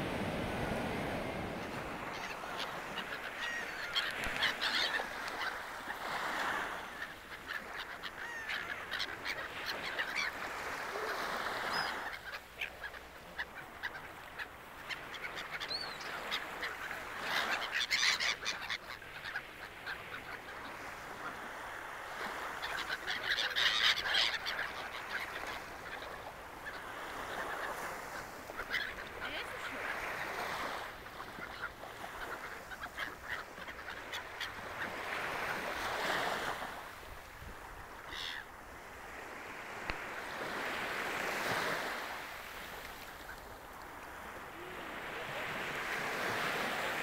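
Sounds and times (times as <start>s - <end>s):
gulls calling: 0.1s - 37.0s, 37.6s - 47.0s.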